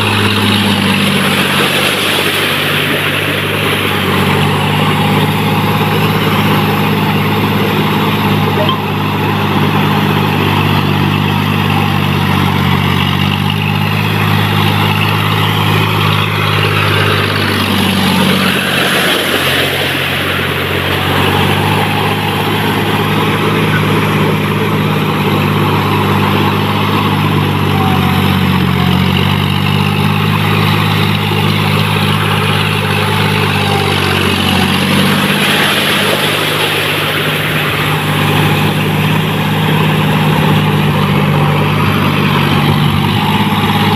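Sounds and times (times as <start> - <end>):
mud and water splashing: 0.0 - 43.9
tractor diesel engine under load: 0.0 - 43.9.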